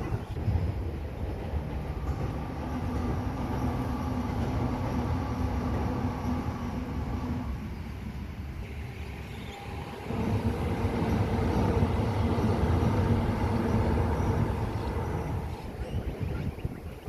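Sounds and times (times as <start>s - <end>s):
railcars rumbling past: 0.0s - 17.0s.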